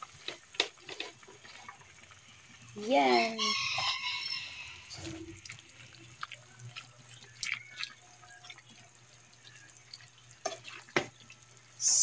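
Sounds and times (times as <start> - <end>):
broth simmering with pops: 0.0 - 12.0.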